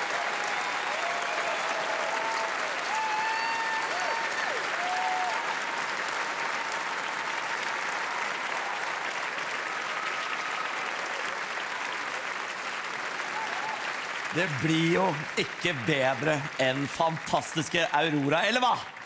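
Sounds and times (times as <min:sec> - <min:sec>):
voices cheering: 0:00.0 - 0:12.4, 0:13.1 - 0:19.0
audience applauding: 0:00.0 - 0:19.0.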